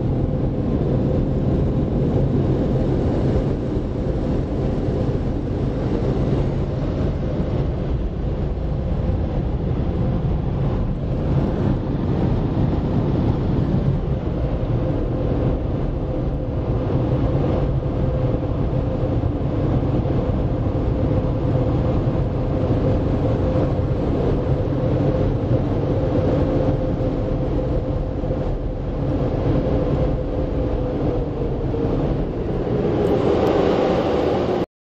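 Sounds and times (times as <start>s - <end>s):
car wash blower dryers: 0.0s - 34.6s.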